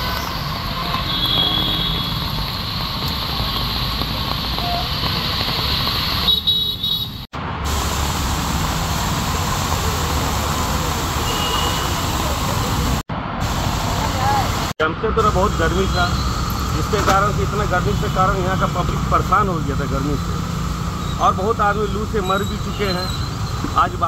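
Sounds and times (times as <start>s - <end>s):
heavy rain hiss: 0.0s - 6.4s, 7.4s - 24.0s
vehicle engines passing: 0.0s - 24.0s.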